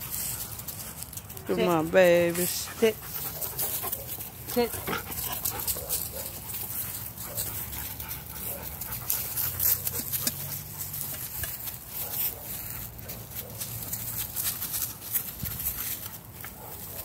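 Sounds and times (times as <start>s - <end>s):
dogs panting: 0.0s - 17.0s
rustles and footfalls in leaves: 0.0s - 17.0s.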